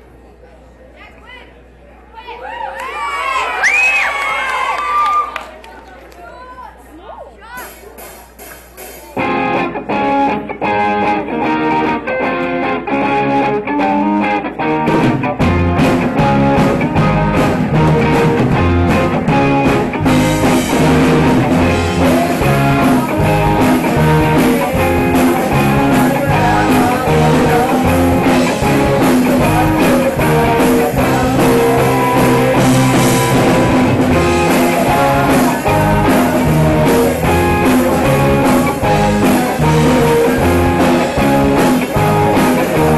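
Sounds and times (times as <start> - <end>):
rock band playing: 7.6 - 42.9.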